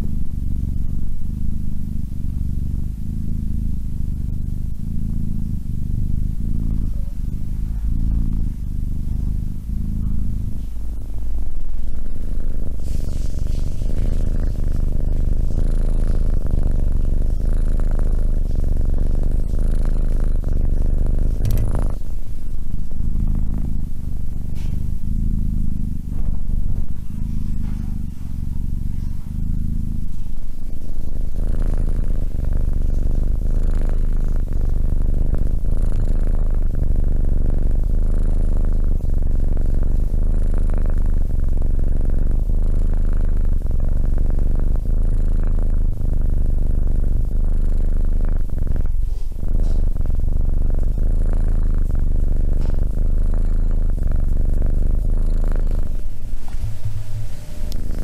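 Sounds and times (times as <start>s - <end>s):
kitten purring: 0.0s - 58.0s.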